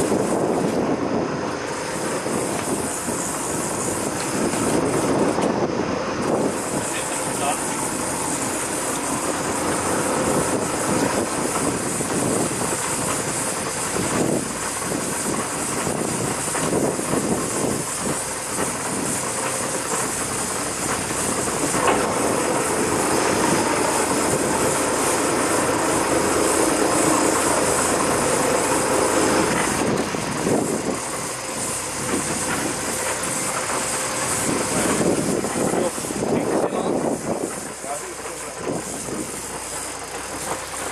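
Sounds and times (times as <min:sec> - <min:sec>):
boat engine drone: 0:00.0 - 0:40.9
water rushing along hull: 0:00.0 - 0:40.9.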